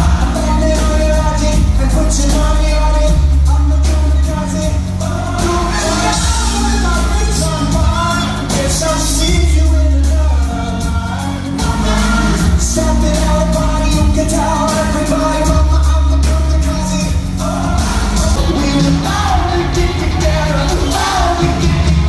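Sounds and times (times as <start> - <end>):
lead singer: 0.0 - 22.0
live pop-rock band playing: 0.0 - 22.0.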